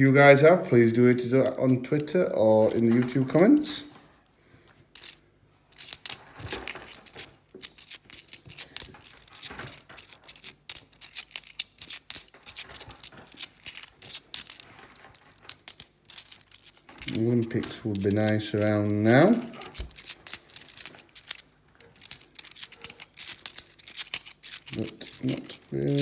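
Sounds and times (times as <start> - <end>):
coins clinking: 0.0 - 3.8, 5.0 - 26.0.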